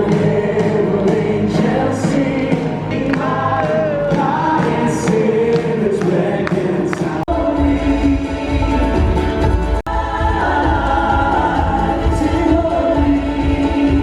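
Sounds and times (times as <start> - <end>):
choir singing christmas music: 0.0 - 14.0
music: 0.0 - 14.0.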